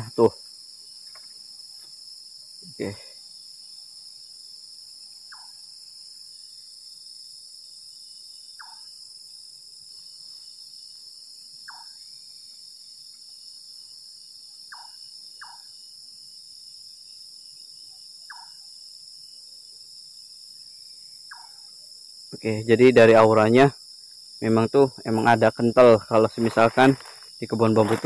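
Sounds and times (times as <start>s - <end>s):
night insects chirring: 0.0s - 28.0s.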